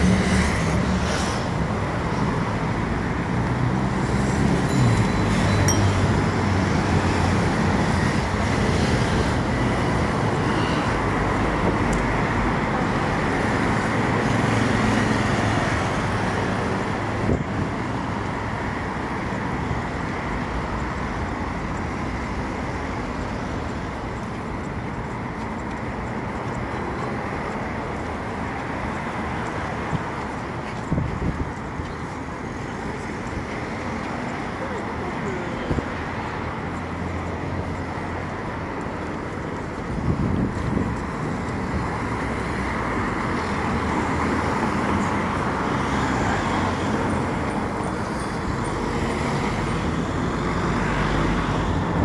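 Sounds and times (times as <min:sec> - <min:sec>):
cars passing: 0:00.0 - 0:52.0.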